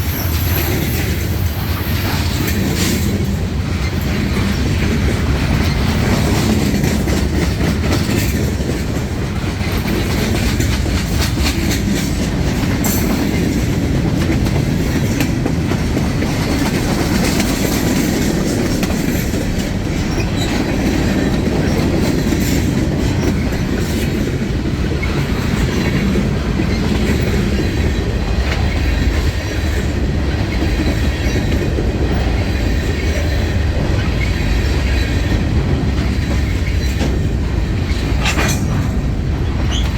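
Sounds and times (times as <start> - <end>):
train cars rumbling: 0.0 - 39.9
train wheels clicking over rail joints: 0.0 - 39.9.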